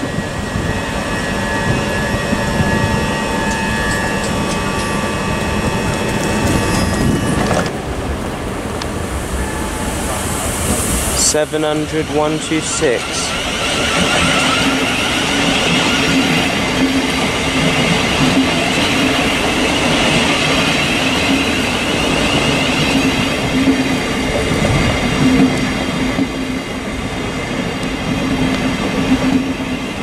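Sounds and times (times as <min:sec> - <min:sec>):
train rumbling over rails: 0:00.0 - 0:30.0.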